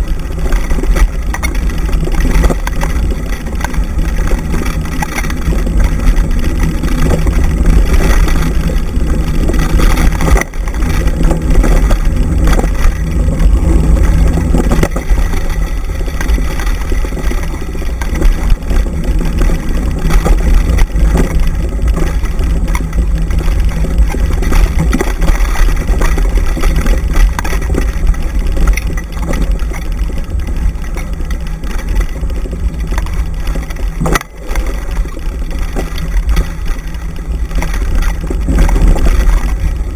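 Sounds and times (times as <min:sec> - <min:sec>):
rig rolling over dirt trail: 0:00.0 - 0:39.9.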